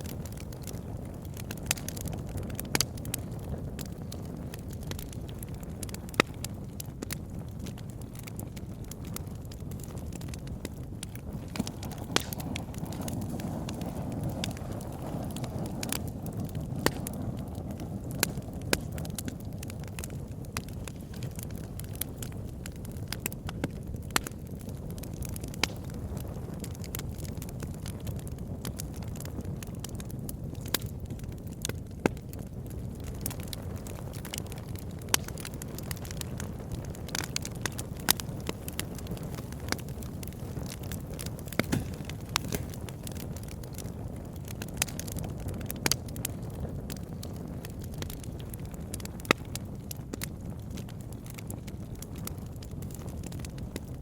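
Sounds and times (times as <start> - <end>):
burning wood crackling and popping: 0.0 - 54.0
campfire flame rushing: 0.0 - 54.0.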